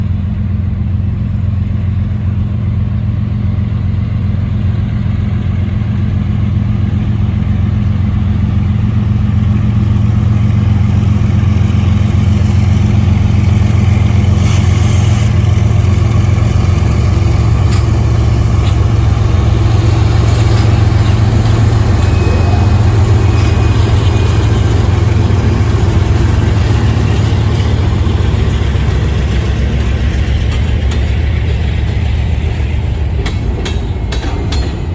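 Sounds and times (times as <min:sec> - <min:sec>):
freight train locomotive drone: 0:00.0 - 0:34.9.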